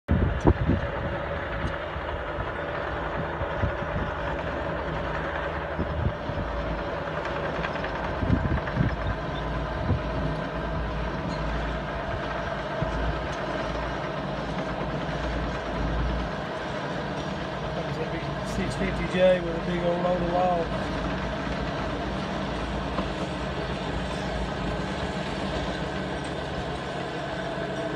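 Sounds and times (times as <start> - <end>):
diesel engine running: 0.1 - 27.9.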